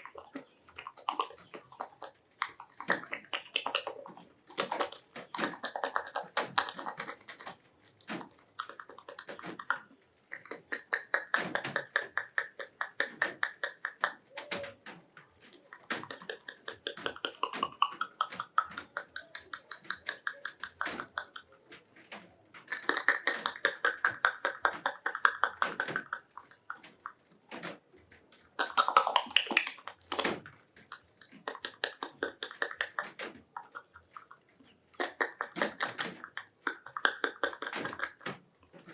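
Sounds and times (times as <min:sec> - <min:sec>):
wet mouth smacks and kissing clicks: 0:00.0 - 0:14.7, 0:15.5 - 0:21.6, 0:22.7 - 0:27.2, 0:28.6 - 0:38.3.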